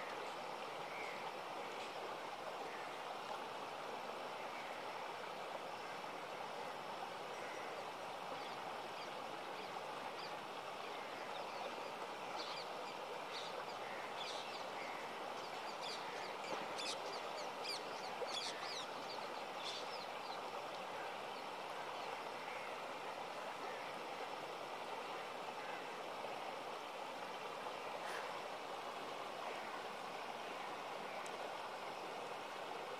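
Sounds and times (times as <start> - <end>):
river water rushing over rocks: 0.0 - 32.9.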